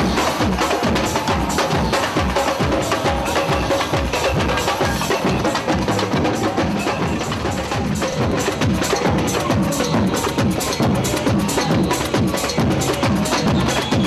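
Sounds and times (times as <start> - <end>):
samba percussion music: 0.0 - 14.0.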